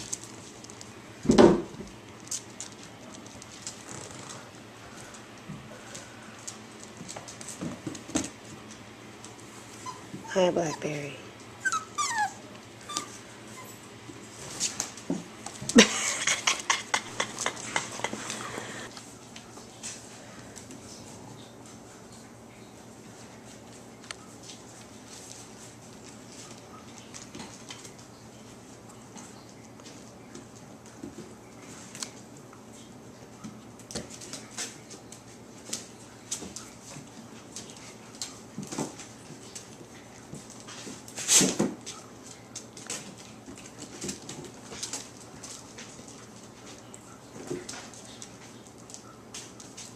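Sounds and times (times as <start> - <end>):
puppy paws clicking on hard floor: 0.0 - 10.8, 11.4 - 49.9.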